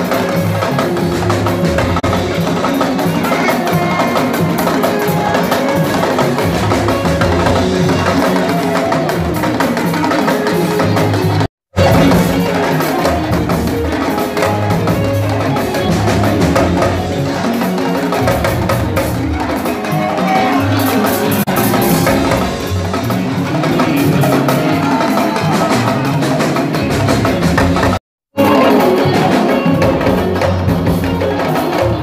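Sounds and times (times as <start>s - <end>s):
band music with busy drums: 0.0s - 32.0s.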